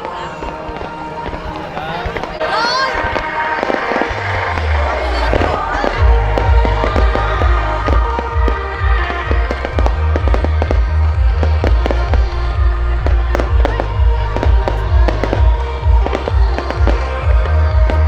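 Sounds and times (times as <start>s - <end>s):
fireworks bangs and crackles: 0.0s - 18.0s
music with heavy bass: 0.0s - 18.0s.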